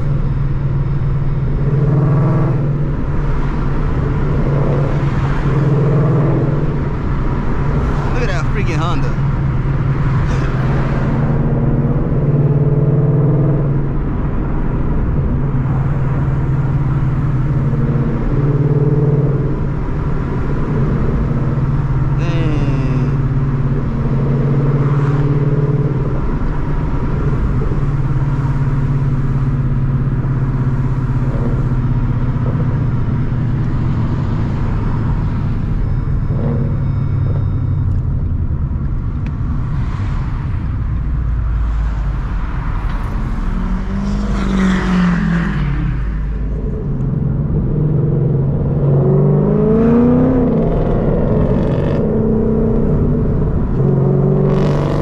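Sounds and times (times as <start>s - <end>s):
car engine and exhaust drone: 0.0s - 55.0s.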